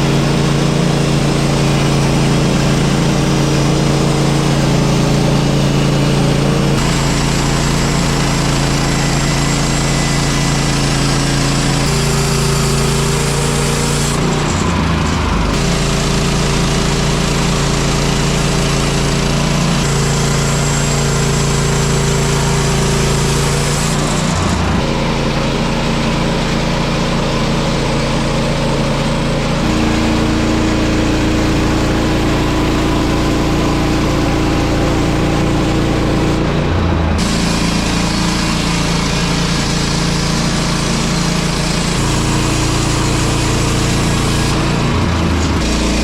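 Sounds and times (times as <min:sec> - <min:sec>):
small gas engine running: 0:00.0 - 0:46.0.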